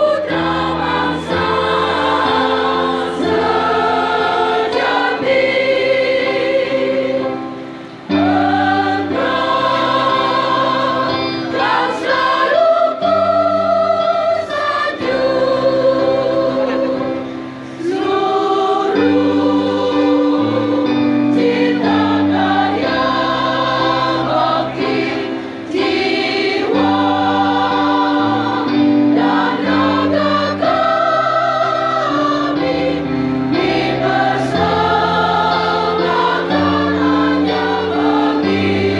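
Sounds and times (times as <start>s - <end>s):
large choir singing an anthem: 0.0s - 38.9s.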